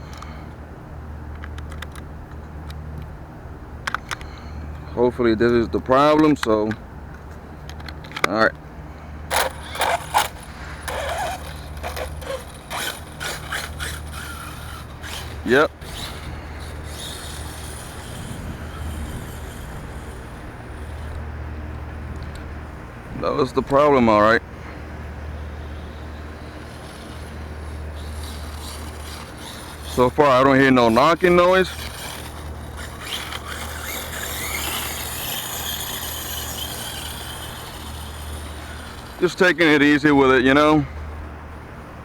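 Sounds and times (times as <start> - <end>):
toy truck drivetrain and tyre noise: 1.3 - 3.1, 3.8 - 8.6, 9.2 - 22.6, 23.4 - 40.8.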